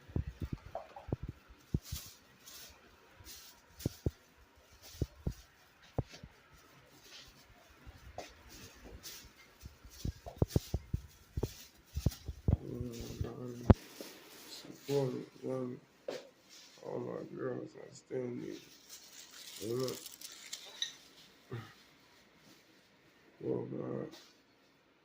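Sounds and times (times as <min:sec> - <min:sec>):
rustling: 0:00.1 - 0:17.0, 0:18.4 - 0:23.2.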